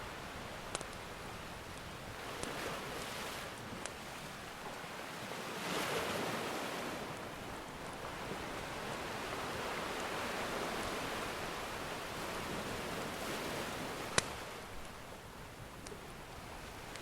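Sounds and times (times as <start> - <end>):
ocean surf washing: 0.0 - 17.0.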